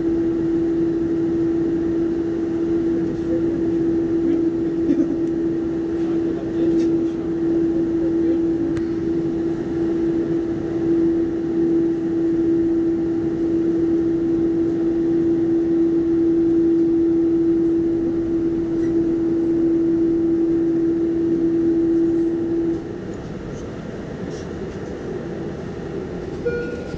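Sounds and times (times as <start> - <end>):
airplane cabin rumble: 0.0 - 26.9
jet engines droning hum: 0.0 - 26.9.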